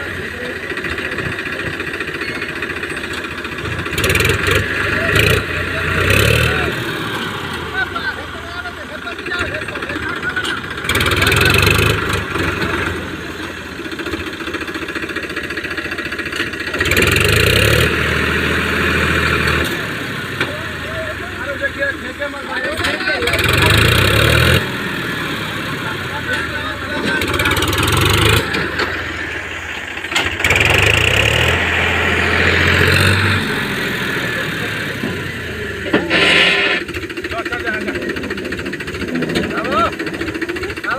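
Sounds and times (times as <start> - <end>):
tractor diesel engine revving: 0.0 - 40.9.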